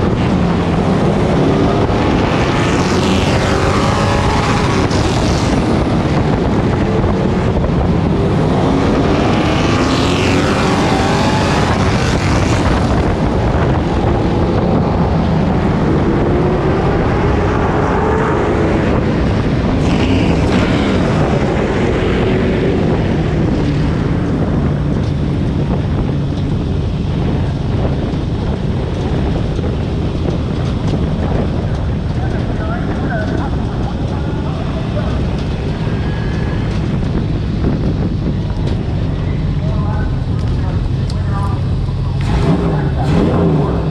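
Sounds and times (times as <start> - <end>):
truck engine revving: 0.0 - 43.9
wind rushing over microphone: 0.0 - 43.9.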